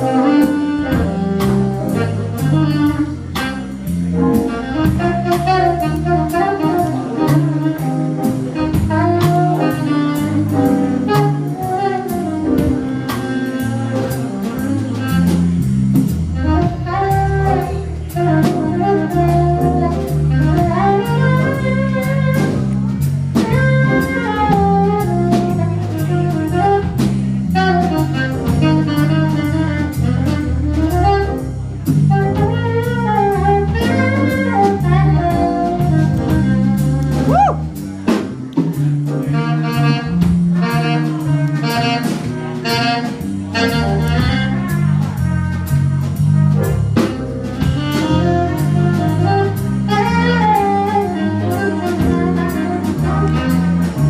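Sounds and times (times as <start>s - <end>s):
brass horn: 0.0s - 54.0s
drum kit and cymbals: 0.0s - 54.0s
saxophone: 0.0s - 54.0s
stepping low bass notes: 0.0s - 54.0s.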